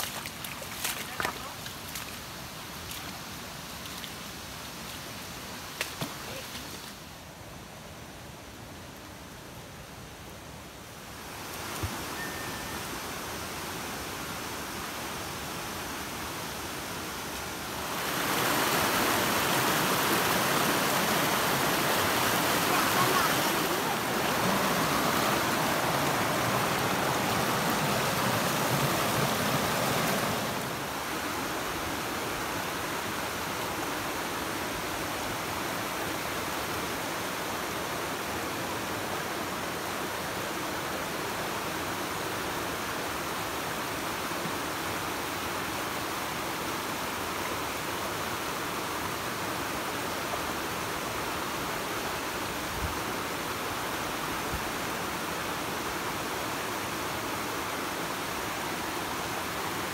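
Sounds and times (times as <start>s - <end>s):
river water rushing over rocks: 0.0s - 7.7s, 10.8s - 59.9s.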